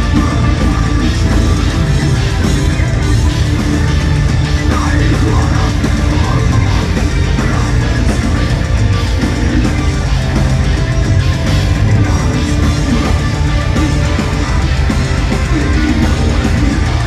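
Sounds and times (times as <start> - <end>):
live death metal band: 0.0 - 17.0.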